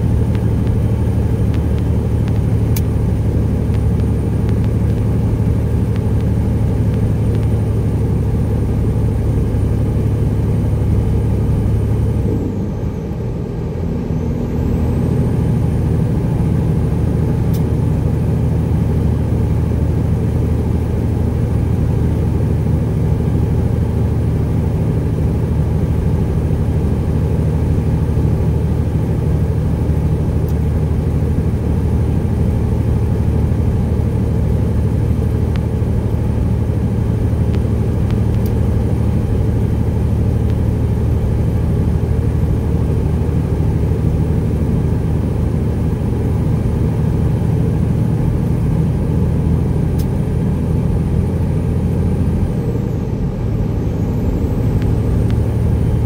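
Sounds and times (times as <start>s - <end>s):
truck diesel engine under load: 0.0s - 56.0s.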